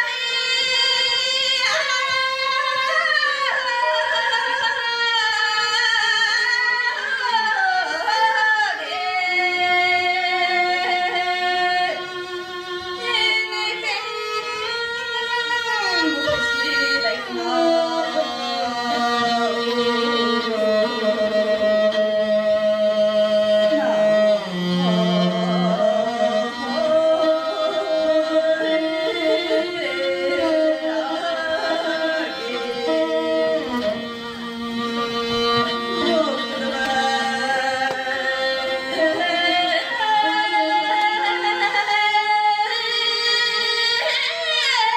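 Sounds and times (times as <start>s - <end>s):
instrumental accompaniment: 0.0s - 44.9s.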